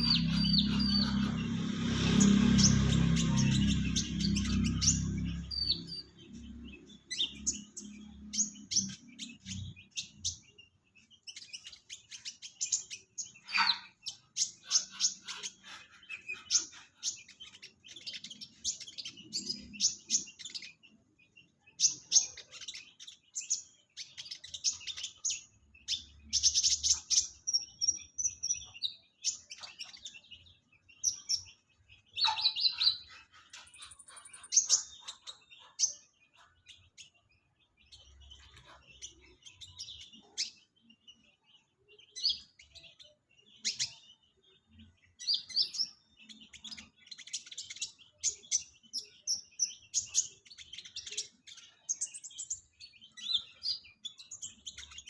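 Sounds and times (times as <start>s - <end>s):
sunbird chirping and twittering: 0.0s - 55.0s.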